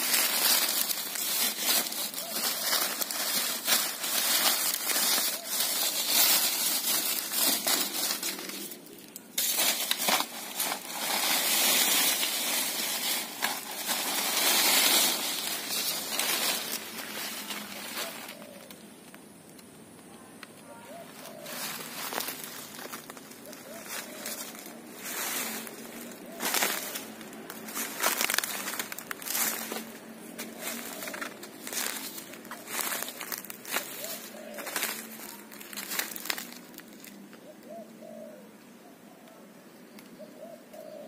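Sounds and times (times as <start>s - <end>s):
dry vegetation rustling: 0.0s - 38.4s.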